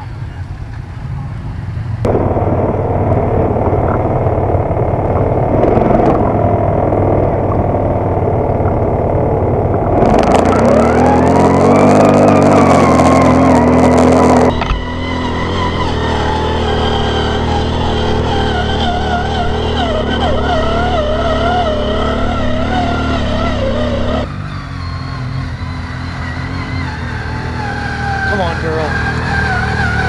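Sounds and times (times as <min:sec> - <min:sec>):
atv engine revving on hill: 0:00.0 - 0:30.0.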